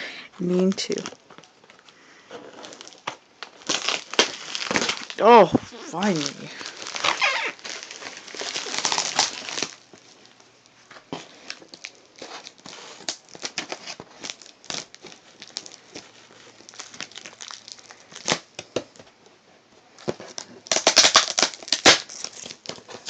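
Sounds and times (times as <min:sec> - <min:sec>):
packaging crinkling and rustling: 0:00.4 - 0:23.0.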